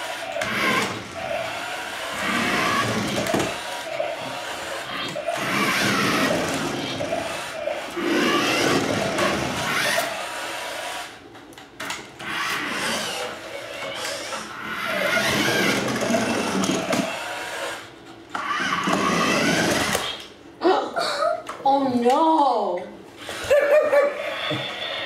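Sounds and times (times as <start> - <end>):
toy car electric motors whirring: 0.0 - 11.2, 11.9 - 20.3, 23.2 - 25.0.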